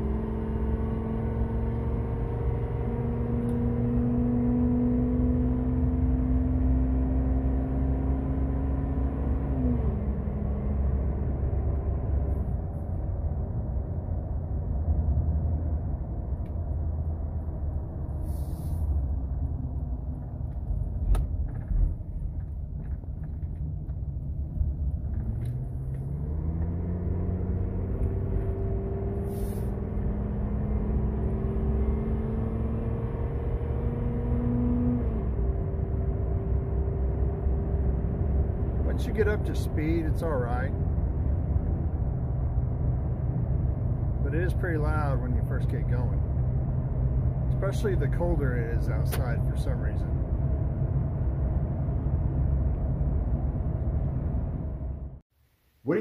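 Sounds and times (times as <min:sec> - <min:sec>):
road rumble: 0:00.0 - 0:56.0
engine exhaust drone: 0:01.2 - 0:55.2.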